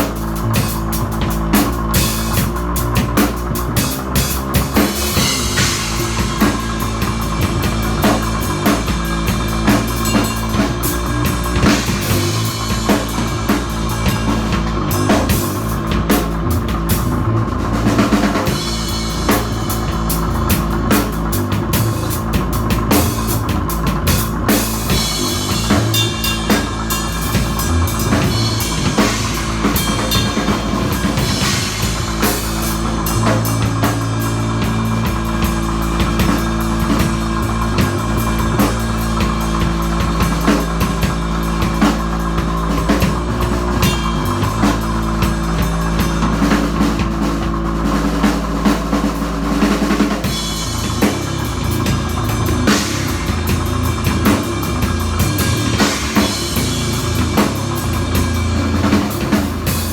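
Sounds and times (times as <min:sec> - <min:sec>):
drum kit playing: 0:00.0 - 0:59.9
low bass notes: 0:00.0 - 0:59.9.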